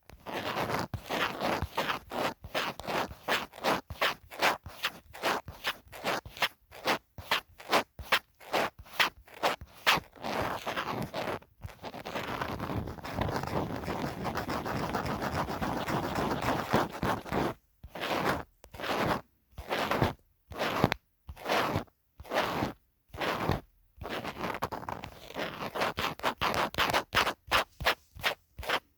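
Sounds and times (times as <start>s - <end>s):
scratching on a phone case: 0.1s - 28.9s.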